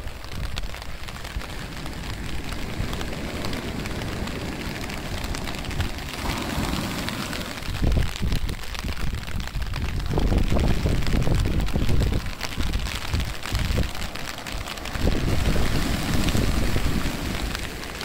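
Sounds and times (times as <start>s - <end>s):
waves washing up a beach: 0.0s - 18.0s.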